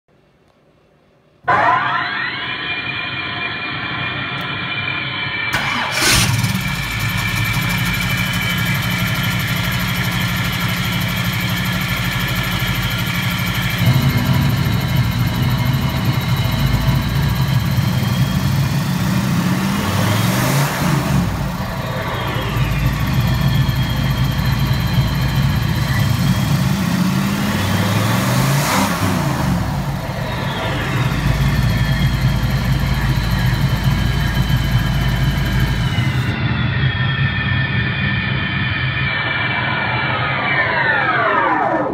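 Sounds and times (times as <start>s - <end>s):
car engine starting and idling: 1.5s - 41.2s
electronic turbine whine: 1.5s - 41.9s.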